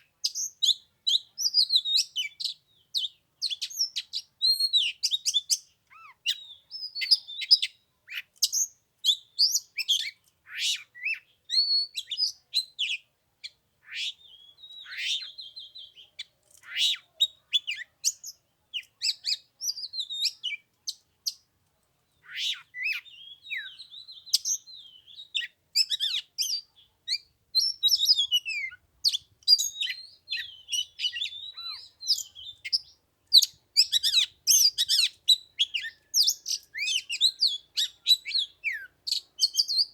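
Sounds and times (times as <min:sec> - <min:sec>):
bird singing whistled phrases: 0:00.3 - 0:07.8, 0:08.4 - 0:13.0, 0:13.8 - 0:21.4, 0:22.2 - 0:39.9.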